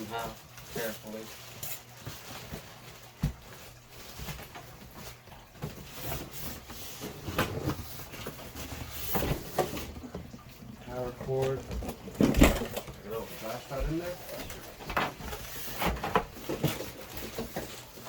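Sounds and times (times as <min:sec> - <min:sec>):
cardboard and foam scraping: 0:00.0 - 0:18.0.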